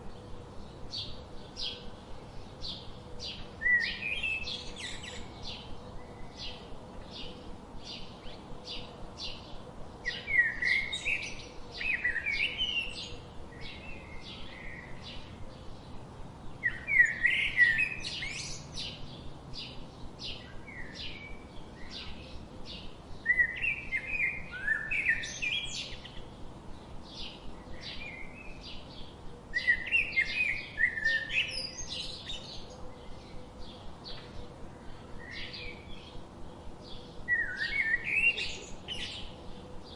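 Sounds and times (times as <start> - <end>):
warbled bird song: 0.0 - 39.9.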